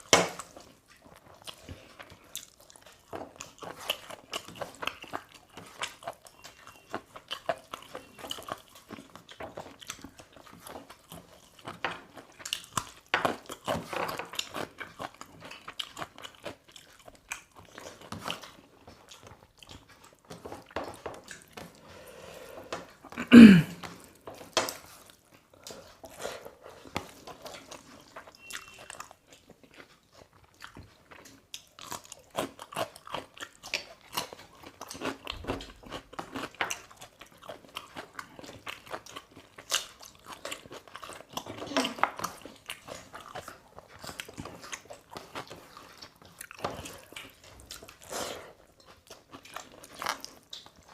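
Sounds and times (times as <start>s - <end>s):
people chewing and crunching: 0.0s - 50.9s.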